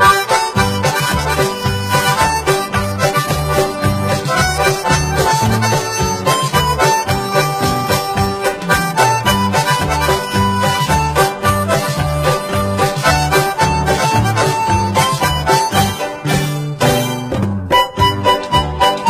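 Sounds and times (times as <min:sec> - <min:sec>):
melody over pulsing bass line: 0:00.0 - 0:19.0.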